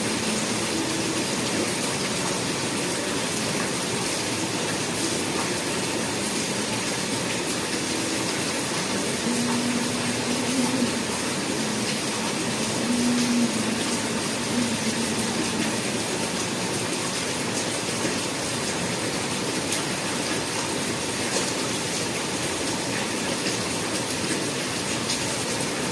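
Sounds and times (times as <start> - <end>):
heavy rain: 0.0 - 25.9.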